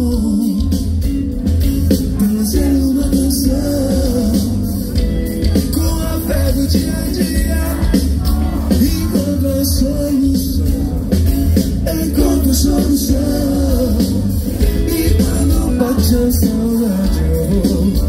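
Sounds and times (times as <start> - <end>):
man singing into a microphone: 0.0 - 1.1, 2.0 - 18.0
live band music: 0.0 - 18.0.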